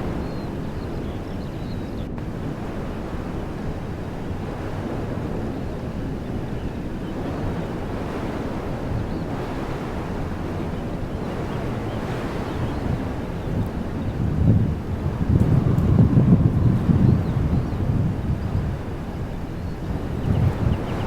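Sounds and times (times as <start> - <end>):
wind blowing through trees: 0.0 - 21.0
wind buffeting microphone: 0.0 - 21.0.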